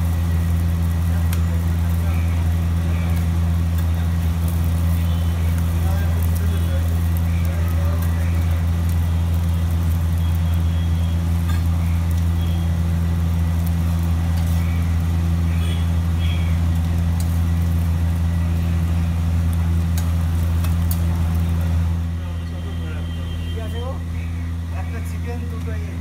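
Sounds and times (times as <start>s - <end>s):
low mechanical motor drone: 0.0s - 26.0s.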